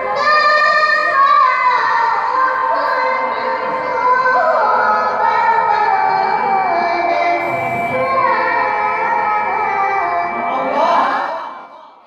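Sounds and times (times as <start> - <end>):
woman reciting melodically: 0.0 - 12.0.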